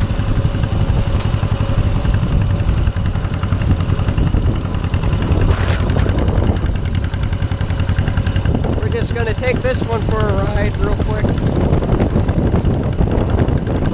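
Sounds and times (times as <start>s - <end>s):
tractor engine running: 0.0s - 13.9s.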